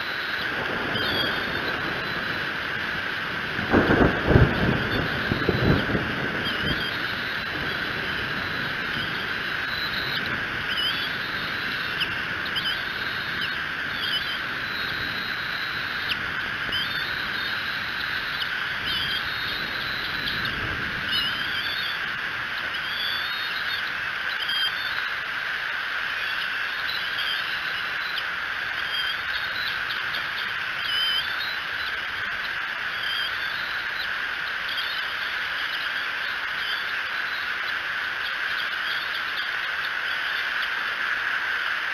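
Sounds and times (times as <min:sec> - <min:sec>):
birds chirping: 0:00.0 - 0:40.8
steady hiss: 0:00.0 - 0:41.9.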